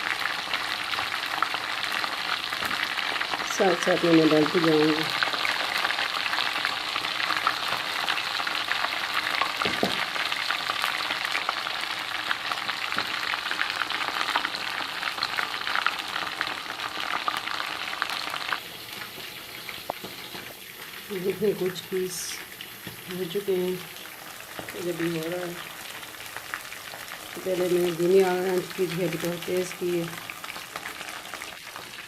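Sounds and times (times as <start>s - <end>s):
chicken frying in hot oil: 0.0s - 32.0s.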